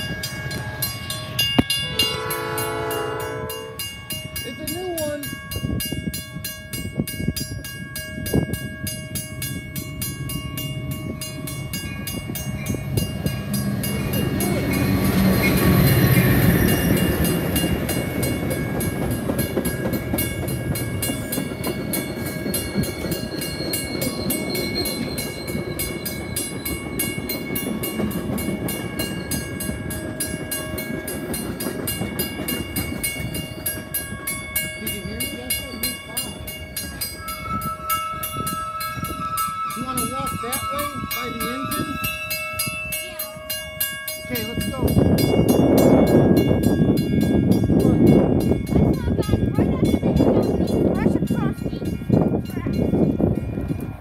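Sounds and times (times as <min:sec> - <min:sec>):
diesel locomotive engine: 0:00.0 - 0:54.0
wheels rumbling on rail: 0:00.0 - 0:54.0.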